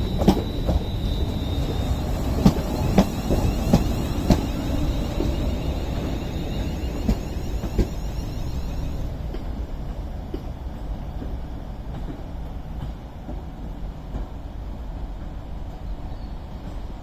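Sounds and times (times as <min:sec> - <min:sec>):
train wheels clicking over rail joints: 0:00.0 - 0:14.4
train low rumble: 0:00.0 - 0:17.0.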